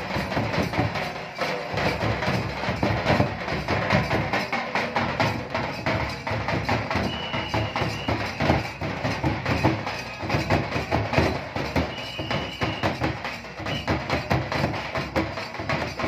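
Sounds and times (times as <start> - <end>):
drums in fast folk rhythm: 0.0 - 16.0.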